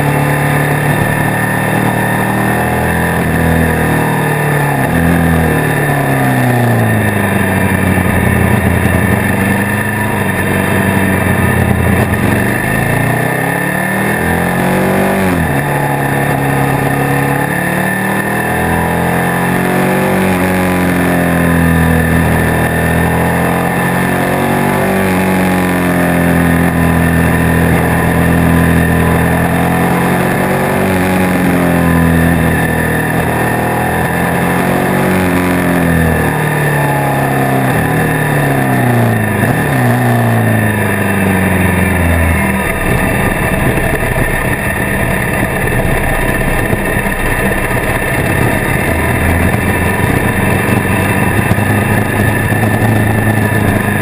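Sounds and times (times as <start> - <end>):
motorcycle engine revving: 0.0 - 54.0
rough steady noise: 0.0 - 54.0.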